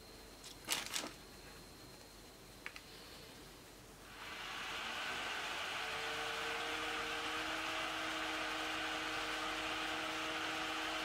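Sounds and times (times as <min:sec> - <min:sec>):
laptop fan whirring: 0:00.0 - 0:11.0
low hum tones: 0:00.0 - 0:11.0.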